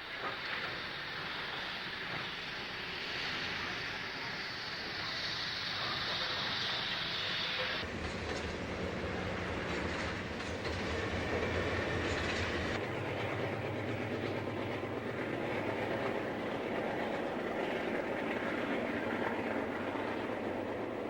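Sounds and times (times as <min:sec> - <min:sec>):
train wheels clicking over rails: 0:00.0 - 0:21.0.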